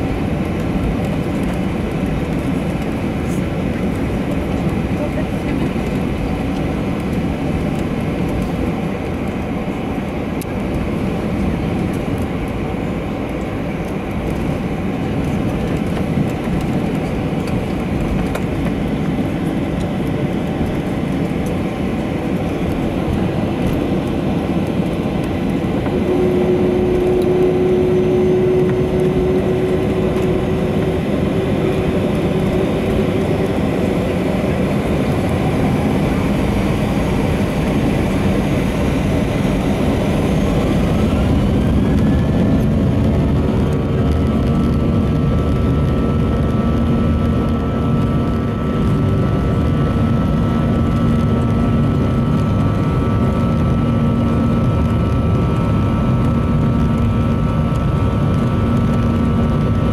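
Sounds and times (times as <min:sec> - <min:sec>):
aircraft rolling on taxiway: 0:00.0 - 0:59.9
jet engine rumble: 0:00.0 - 0:59.9
steady humming tone: 0:00.0 - 0:59.9.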